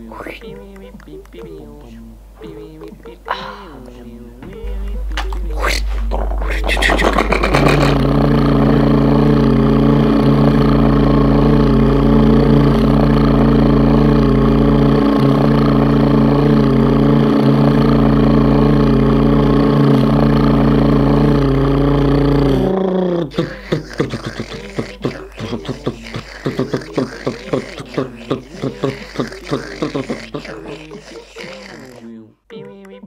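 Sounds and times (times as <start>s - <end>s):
person humming low: 0.0s - 32.9s
choppy mouth sounds: 0.0s - 33.0s.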